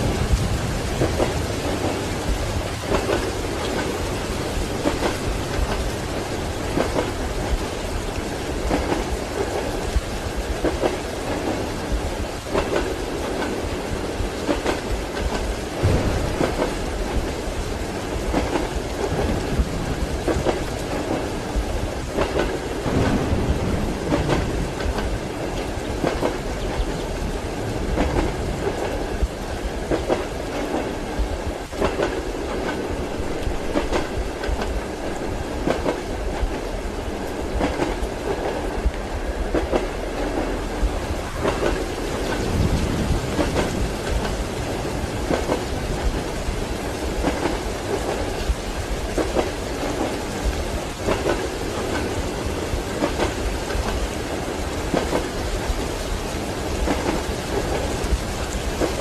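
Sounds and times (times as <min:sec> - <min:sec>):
rain running: 0:00.0 - 0:59.0
train carriage rumble on rails: 0:00.0 - 0:59.0.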